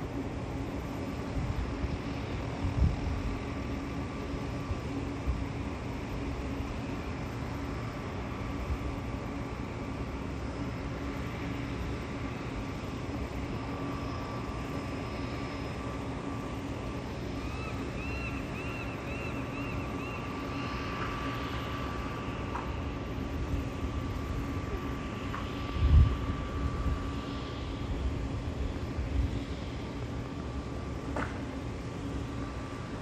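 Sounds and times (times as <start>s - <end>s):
distant engine drone: 0.0s - 33.0s.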